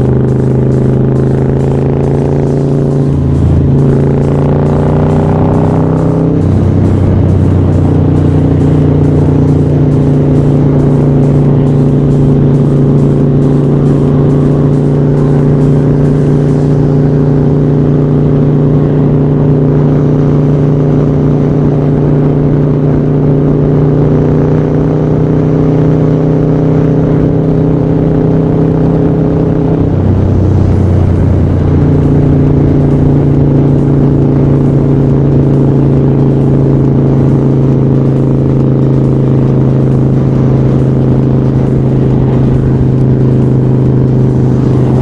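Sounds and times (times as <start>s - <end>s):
motorcycle engine cruising: 0.0s - 45.0s
wind rush on microphone: 0.0s - 45.0s.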